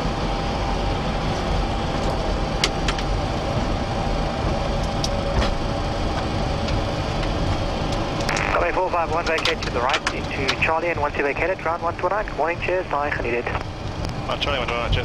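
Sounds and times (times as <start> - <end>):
faint steady whine: 0.0 - 15.0
jet engine and wheels rumbling: 0.0 - 15.0.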